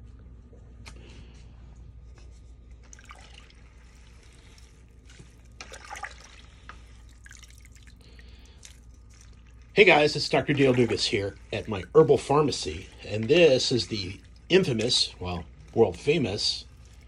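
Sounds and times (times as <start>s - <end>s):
liquid sloshing and dripping: 2.3s - 17.0s
spoon stirring liquid in pot: 2.4s - 17.0s.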